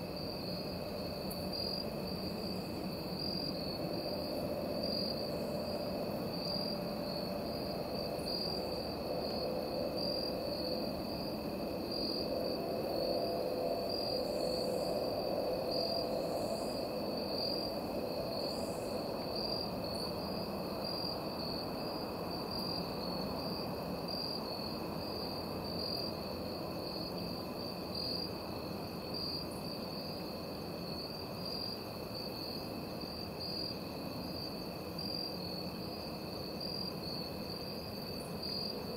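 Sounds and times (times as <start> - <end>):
crickets and insects trilling: 0.0 - 38.9
low steady insect tone: 0.0 - 38.9.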